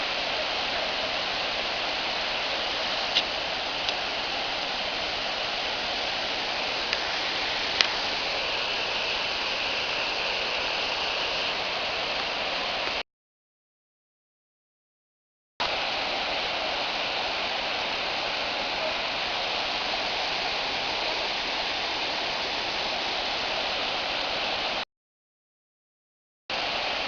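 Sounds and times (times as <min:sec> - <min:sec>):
waterfall rushing: 0:00.0 - 0:13.0, 0:15.6 - 0:24.8, 0:26.5 - 0:27.0.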